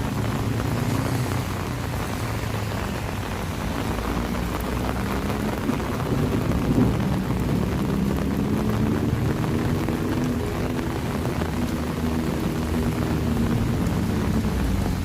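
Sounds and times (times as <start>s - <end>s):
rain falling: 0.0s - 15.0s
road traffic rumble: 0.0s - 15.0s.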